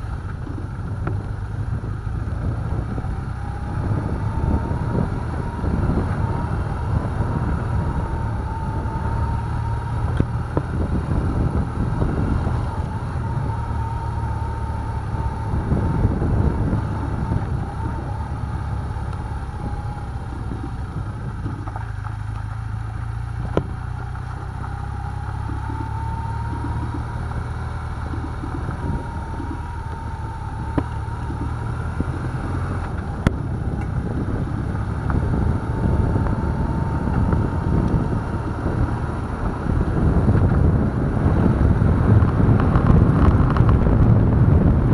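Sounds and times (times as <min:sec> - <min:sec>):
motorcycle engine running: 0:00.0 - 0:44.9
wind rumble on microphone: 0:00.0 - 0:44.9.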